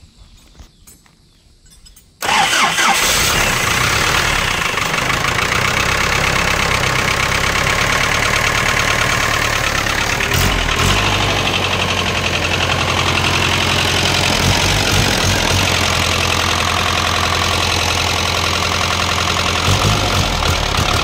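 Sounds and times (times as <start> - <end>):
diesel engine idling: 2.2 - 21.0.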